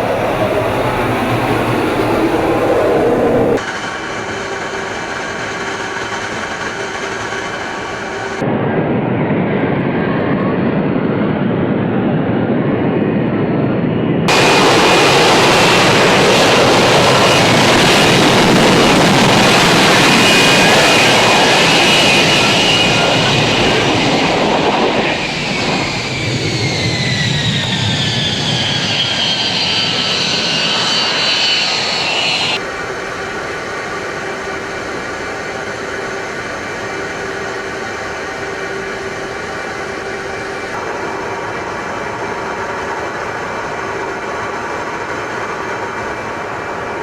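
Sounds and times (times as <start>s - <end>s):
jet engine passing: 0.0s - 47.0s.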